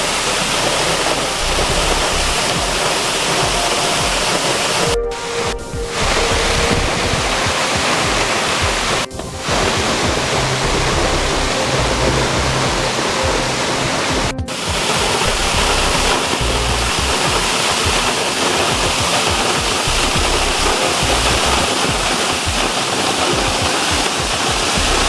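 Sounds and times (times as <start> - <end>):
background music: 0.0 - 25.0
waterfall rushing: 0.0 - 25.0.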